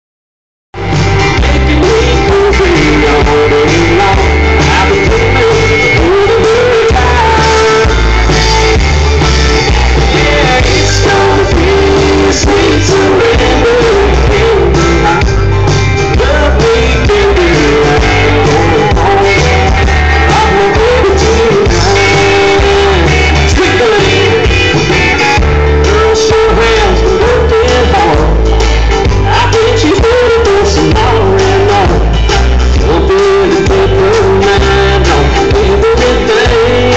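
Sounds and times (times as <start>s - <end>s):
live band playing: 0.8s - 36.9s
person singing: 0.8s - 36.9s.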